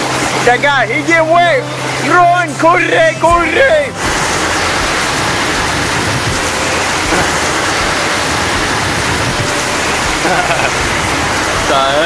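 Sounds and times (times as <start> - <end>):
heavy rain on wet pavement: 0.0 - 12.0.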